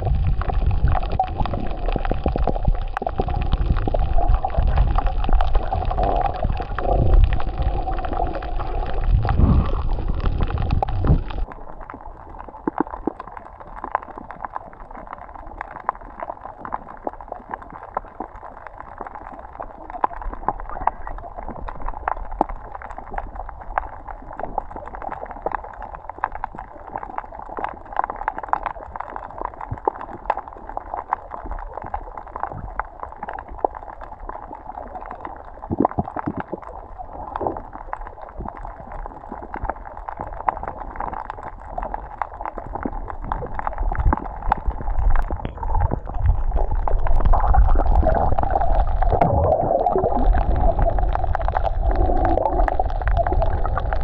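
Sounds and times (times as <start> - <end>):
low rumble of moving water: 0.0 - 54.0
muffled underwater gurgling: 0.0 - 54.0.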